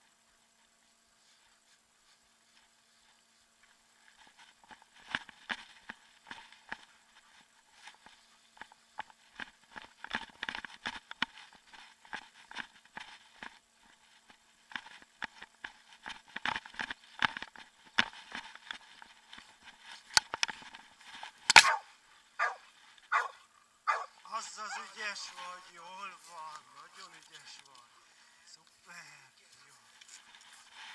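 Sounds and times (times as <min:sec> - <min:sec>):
crackling footsteps: 0:00.0 - 0:30.9
rustling: 0:00.0 - 0:30.9.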